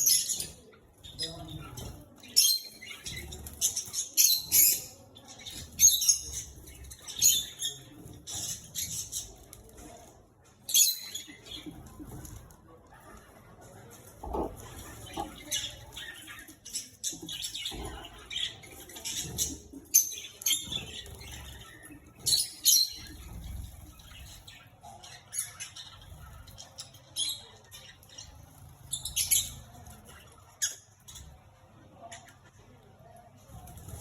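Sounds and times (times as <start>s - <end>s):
birds chirping and squeaking: 0.0s - 34.0s.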